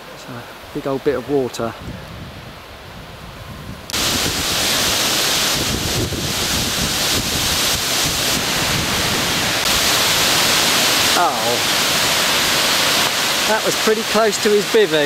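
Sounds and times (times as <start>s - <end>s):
wind gusting on microphone: 1.2s - 13.4s.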